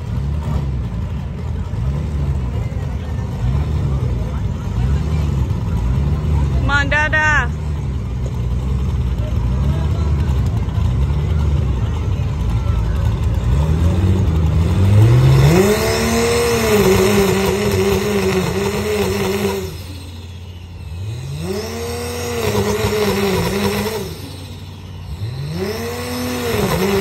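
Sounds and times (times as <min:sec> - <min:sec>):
drag car engine revving: 0:00.0 - 0:27.0.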